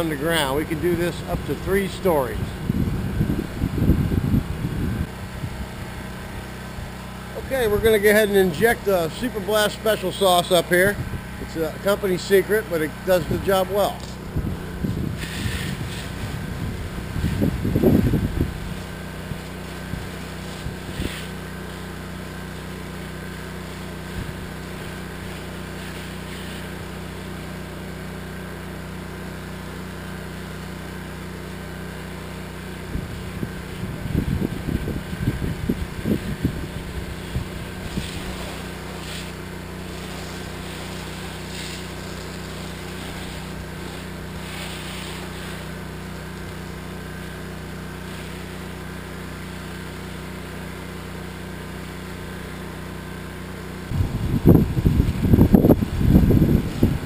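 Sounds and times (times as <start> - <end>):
pressure washer engine humming: 0.0 - 57.0.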